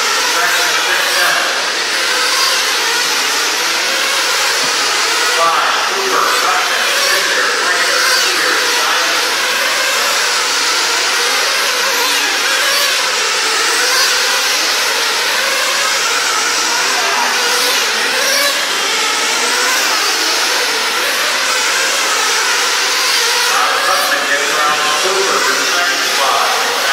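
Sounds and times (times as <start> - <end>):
rc car engines whining: 0.0 - 26.9.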